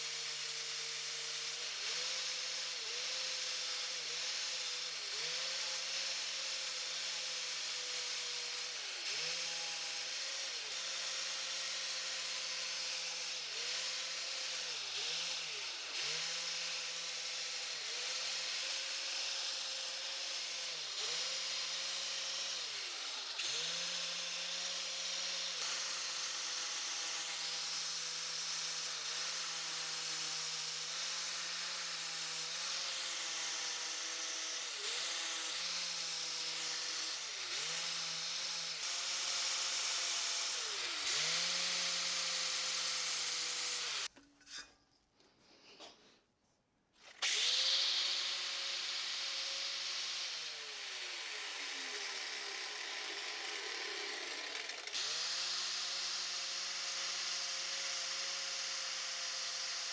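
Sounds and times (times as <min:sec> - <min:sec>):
angle grinder grinding steel: 0:00.0 - 0:44.9, 0:47.0 - 0:59.9.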